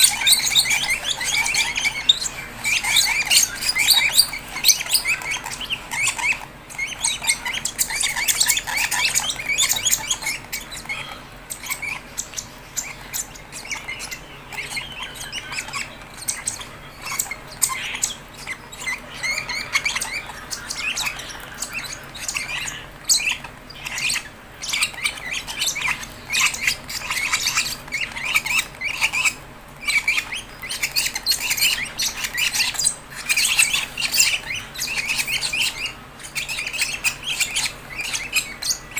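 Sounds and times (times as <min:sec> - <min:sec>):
lovebirds squawking and chirping: 0:00.0 - 0:38.9.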